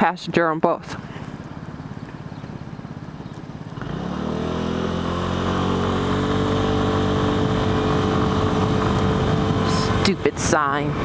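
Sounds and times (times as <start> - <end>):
scooter engine pulling away: 1.2 - 11.0.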